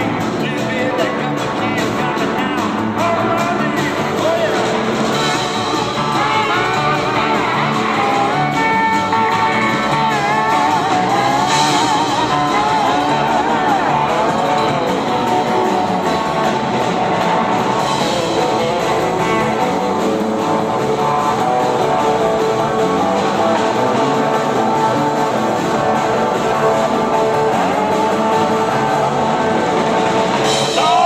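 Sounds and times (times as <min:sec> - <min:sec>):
blues-rock band playing: 0:00.0 - 0:31.0
electric guitar: 0:00.0 - 0:31.0.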